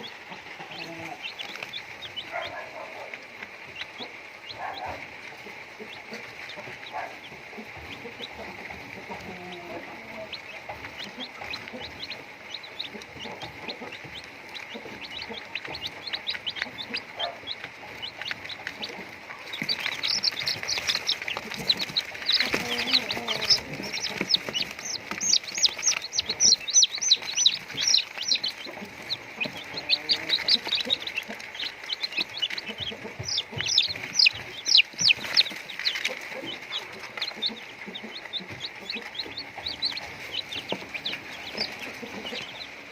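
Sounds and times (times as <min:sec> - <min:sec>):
chickens clucking and peeping: 0:00.0 - 0:42.9.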